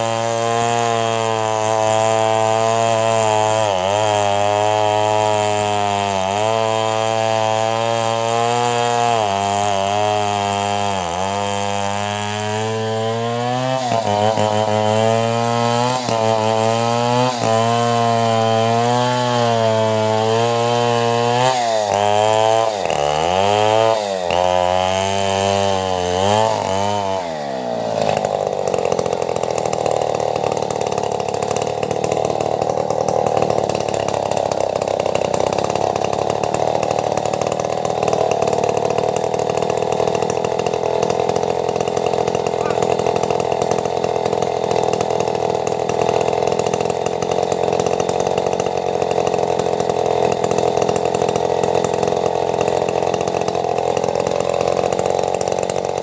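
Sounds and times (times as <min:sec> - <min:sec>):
chainsaw cutting timber: 0:00.0 - 0:56.0.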